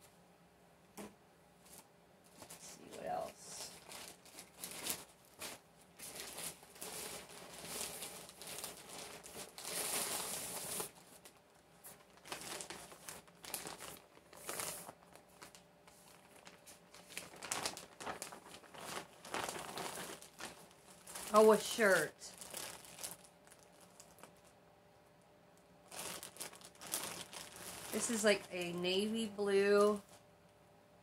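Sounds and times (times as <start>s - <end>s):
plastic bags crinkling: 1.7s - 24.5s, 25.8s - 30.2s.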